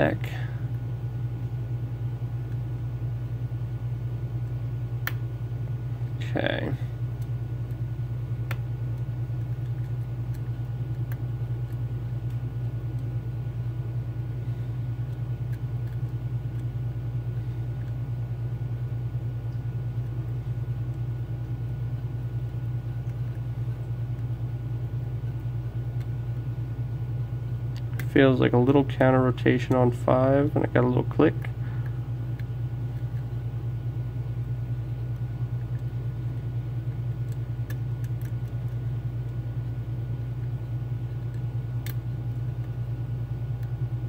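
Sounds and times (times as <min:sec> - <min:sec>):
low room hum: 0:00.0 - 0:44.0.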